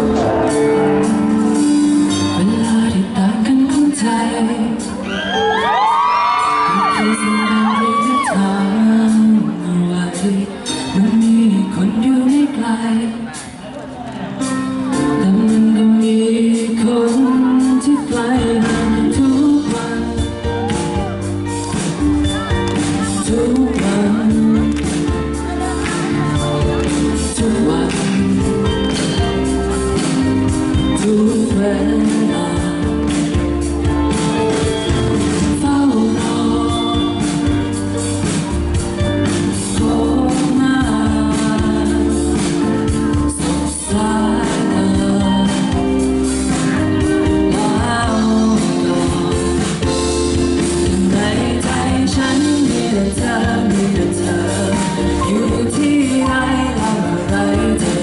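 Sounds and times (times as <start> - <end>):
amplified music with bass line: 0.0 - 13.4, 14.4 - 58.0
person singing into a microphone: 0.0 - 58.0.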